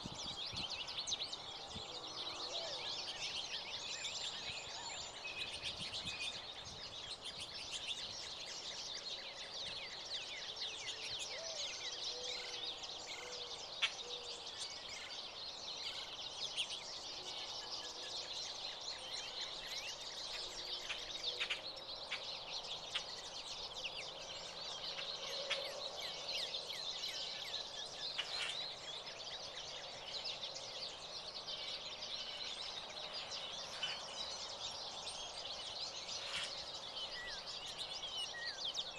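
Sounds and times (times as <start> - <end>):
finches chirping and twittering: 0.0 - 38.9.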